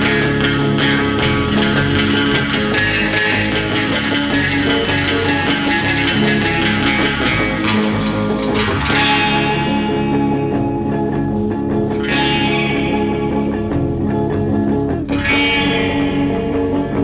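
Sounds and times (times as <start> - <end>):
rock music with guitar and bass: 0.0 - 17.0.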